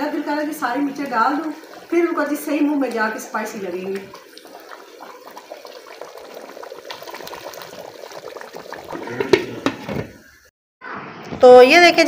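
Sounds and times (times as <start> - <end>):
thick sauce bubbling in a pot: 0.0 - 9.9.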